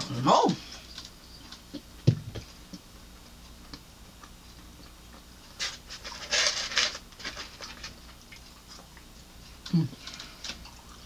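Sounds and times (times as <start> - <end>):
wet chewing: 0.6 - 11.0.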